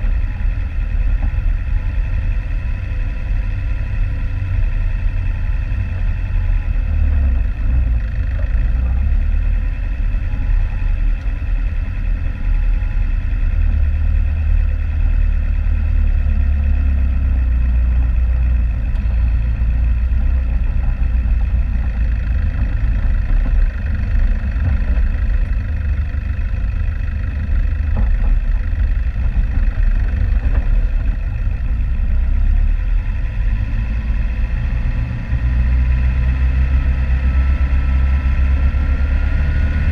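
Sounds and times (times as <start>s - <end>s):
vehicle engine low drone: 0.0s - 39.9s.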